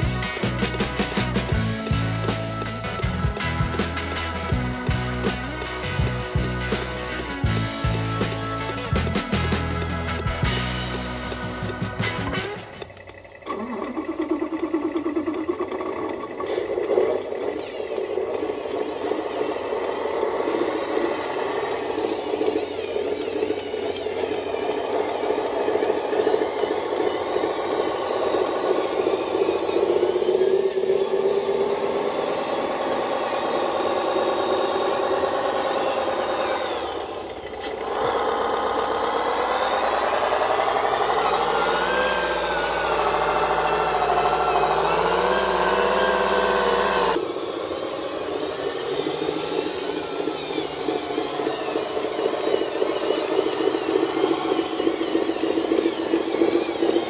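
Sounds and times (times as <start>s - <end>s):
model truck motor revving: 0.0s - 57.0s.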